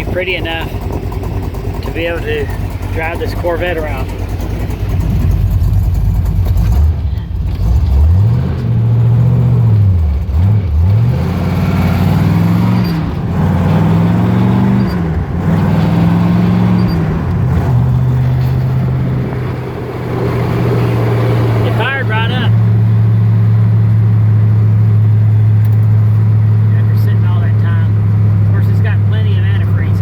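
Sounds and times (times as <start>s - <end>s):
car engine accelerating through gears: 0.0s - 30.0s.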